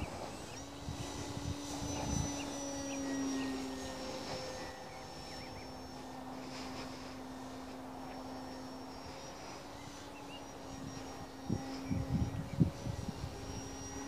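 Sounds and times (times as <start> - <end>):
model plane motor drone: 0.0 - 14.0.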